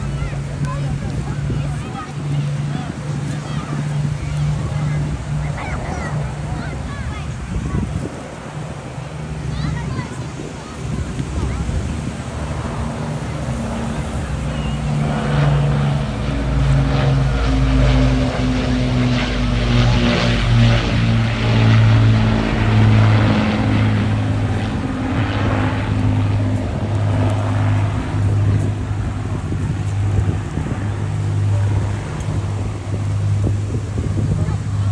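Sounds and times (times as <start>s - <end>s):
propeller plane engines droning: 0.0s - 34.9s.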